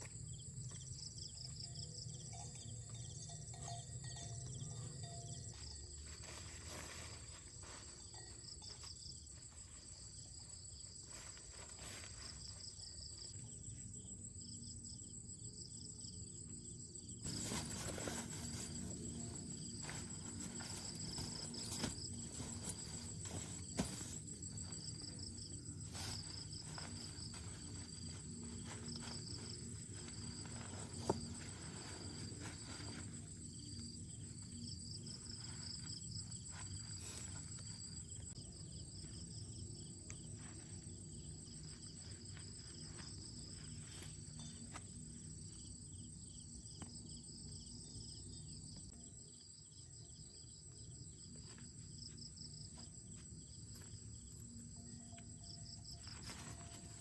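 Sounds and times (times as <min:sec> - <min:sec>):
insect high-pitched trill: 0:00.0 - 0:46.8, 0:49.0 - 0:57.0.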